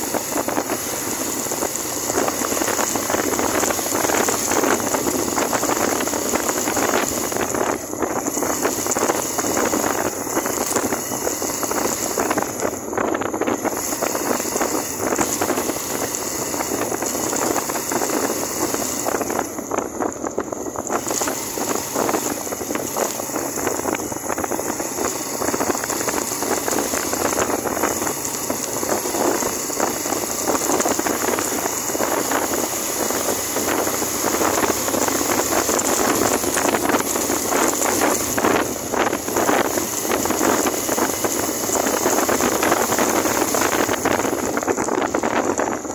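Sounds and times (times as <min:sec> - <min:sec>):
motorcycle engine running: 0:00.0 - 0:45.9
wind rushing over microphone: 0:00.0 - 0:45.9.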